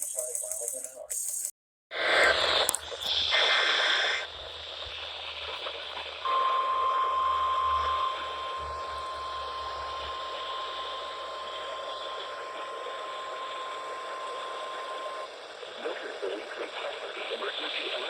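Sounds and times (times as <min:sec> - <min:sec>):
radio reception hiss: 0:00.0 - 0:18.0
steady electronic tone: 0:02.1 - 0:17.1.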